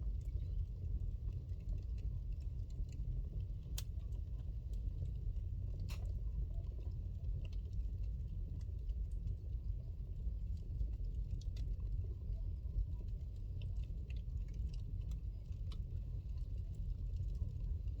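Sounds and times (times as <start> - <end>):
fire rumbling: 0.0 - 18.0.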